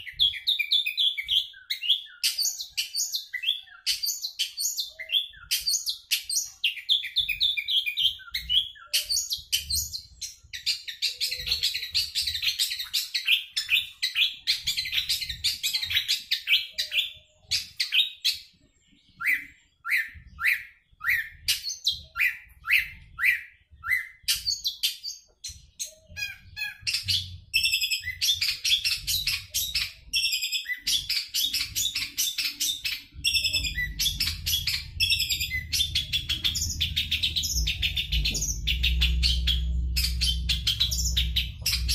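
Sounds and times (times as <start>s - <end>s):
bird singing chattering trills: 0.0s - 41.9s.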